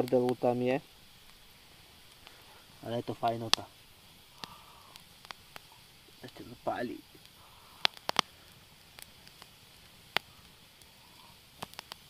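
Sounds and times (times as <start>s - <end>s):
campfire crackling and popping: 0.0s - 12.0s
faint hiss: 0.0s - 12.0s.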